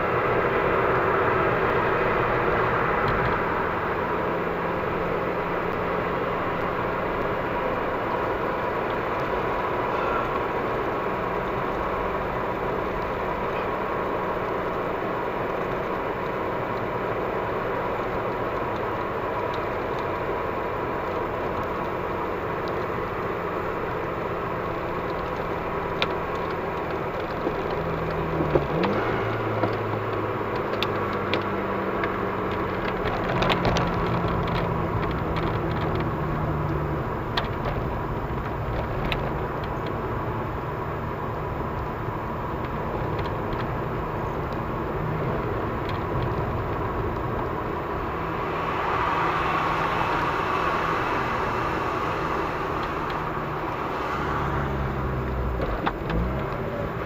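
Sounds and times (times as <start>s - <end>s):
car engine running: 0.0s - 57.0s
tyre and road noise: 0.0s - 57.0s.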